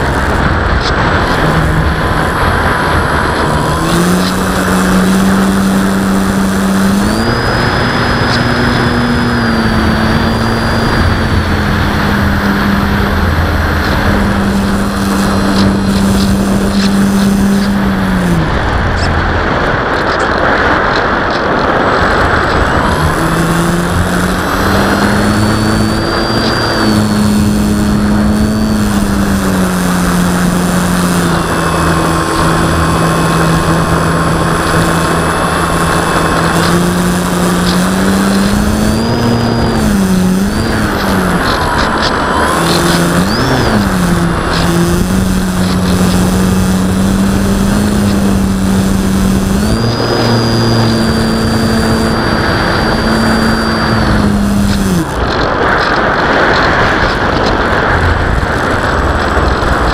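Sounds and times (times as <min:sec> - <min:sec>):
model airplane electric motor: 0:00.0 - 0:59.9
wind rushing over microphone: 0:00.0 - 0:59.9.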